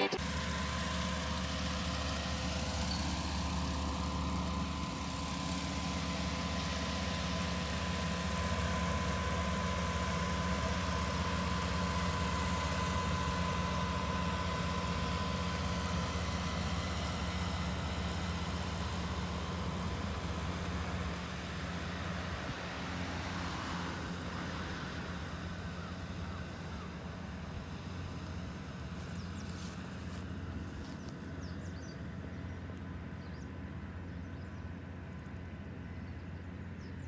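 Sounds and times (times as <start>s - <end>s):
combine harvester engine hum: 0.0s - 37.0s.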